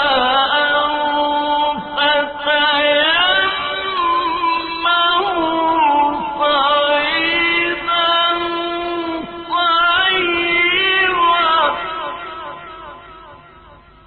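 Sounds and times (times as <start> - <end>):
man chanting melodically: 0.0 - 13.9.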